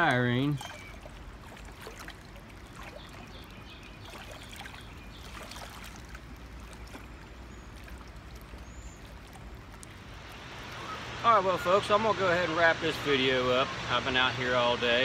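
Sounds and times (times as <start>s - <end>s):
low steady rumble: 0.0s - 15.0s
river water lapping: 0.0s - 15.0s.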